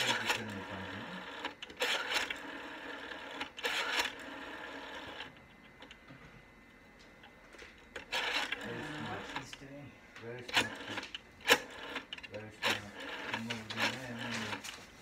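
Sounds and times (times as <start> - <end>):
rotary phone dial whirring clicks: 0.0 - 6.1, 7.2 - 14.7.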